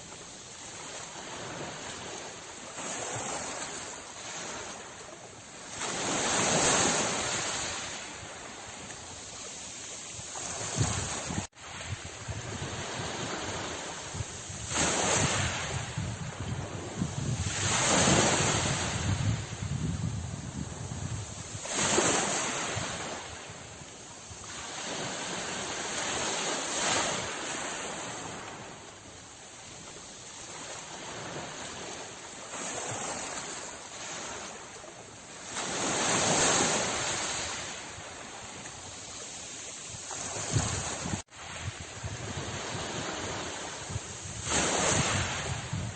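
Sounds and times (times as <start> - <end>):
steady rush of water: 0.0 - 45.9
waves breaking: 0.0 - 45.9.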